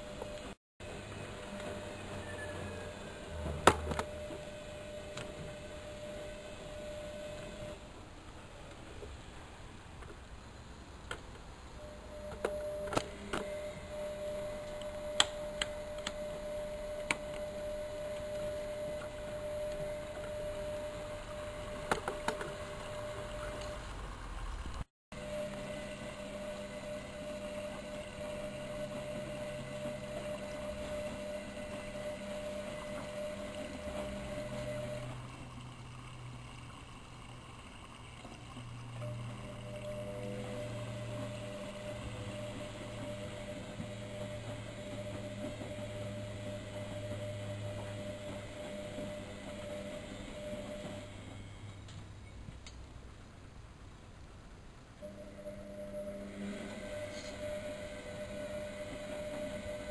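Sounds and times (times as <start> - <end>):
washing machine hum: 0.0 - 59.9.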